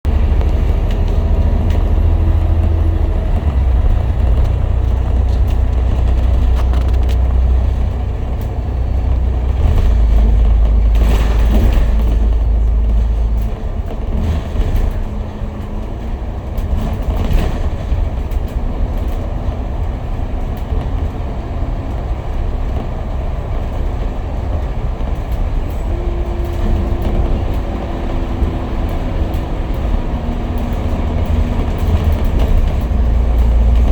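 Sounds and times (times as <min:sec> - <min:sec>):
bus engine drone: 0:00.0 - 0:33.9
road noise: 0:00.0 - 0:33.9.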